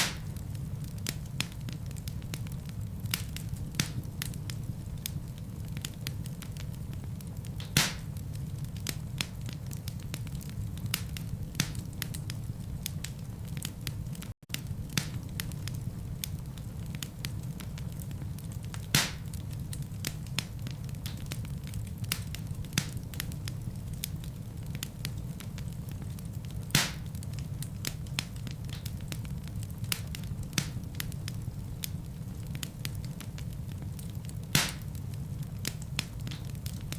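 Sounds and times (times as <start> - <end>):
fire crackling and popping: 0.0 - 36.9.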